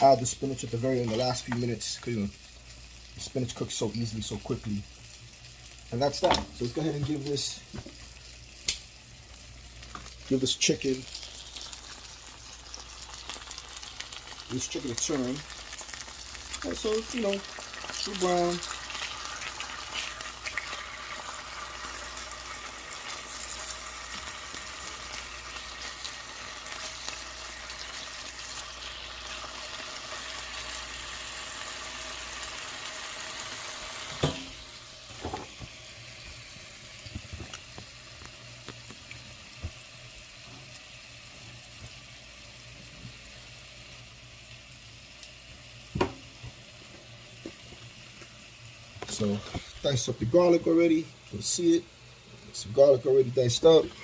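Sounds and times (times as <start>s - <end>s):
chicken sizzling in a frying pan: 0.0s - 54.0s.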